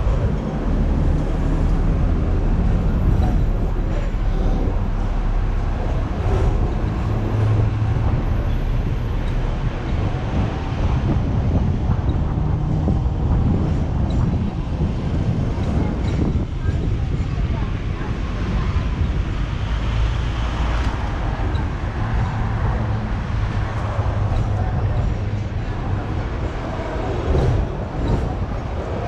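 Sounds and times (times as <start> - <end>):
city traffic: 0.0 - 29.0
tram rumbling on rails: 0.0 - 29.0.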